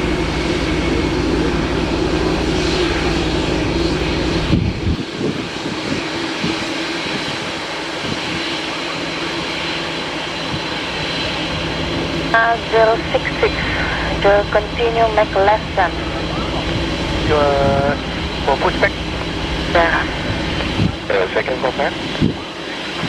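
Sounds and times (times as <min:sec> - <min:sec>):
jet engine rush: 0:00.0 - 0:23.0
low engine hum: 0:00.0 - 0:23.0.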